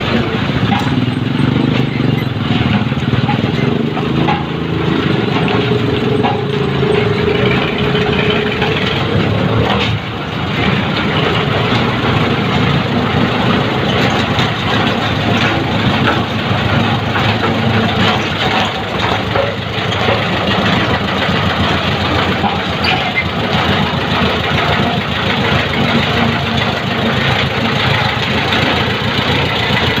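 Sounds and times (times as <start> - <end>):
road roller engine running: 0.0 - 30.0.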